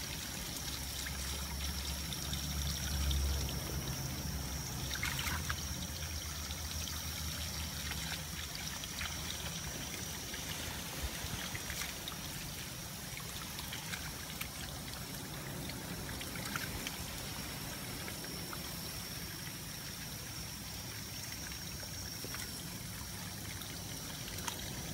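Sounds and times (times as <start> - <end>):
water running from a hose: 0.0 - 24.9.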